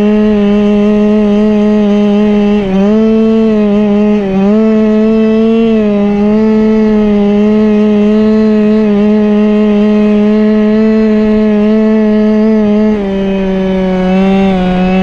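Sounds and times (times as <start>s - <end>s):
scooter two-stroke engine revving: 0.0s - 15.0s.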